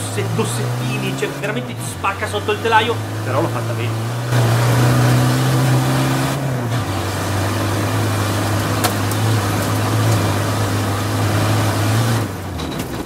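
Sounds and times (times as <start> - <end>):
diesel engine running hard: 0.0 - 13.0
gravel noise: 0.0 - 13.0.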